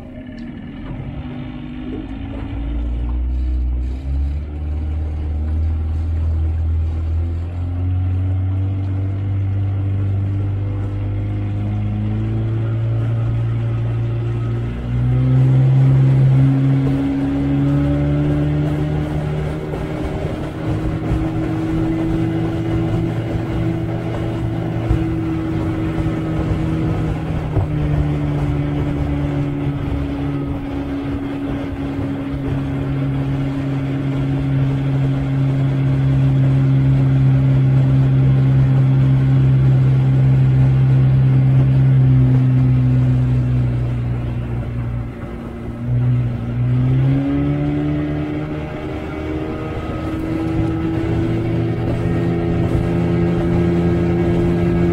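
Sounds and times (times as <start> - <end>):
outboard motor running: 0.0 - 54.9.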